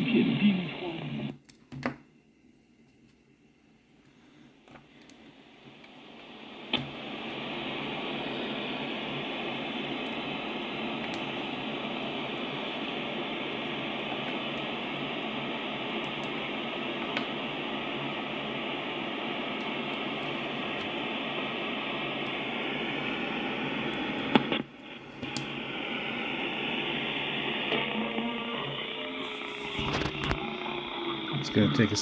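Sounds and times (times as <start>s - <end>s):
shortwave radio static hiss: 0.0s - 1.4s, 4.2s - 32.0s.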